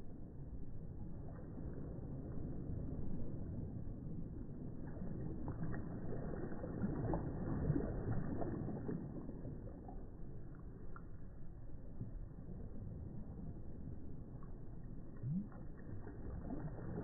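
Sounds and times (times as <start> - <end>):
small waves breaking softly: 0.0 - 17.0.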